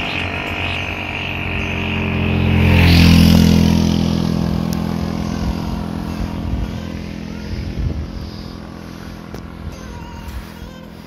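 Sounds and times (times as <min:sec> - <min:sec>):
motorcycle engine passing: 0:00.0 - 0:11.0.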